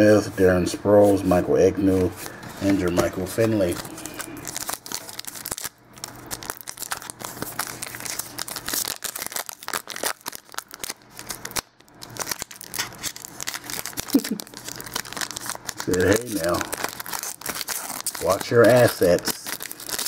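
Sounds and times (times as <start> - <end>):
wrapper crinkling and tearing: 2.2 - 20.0.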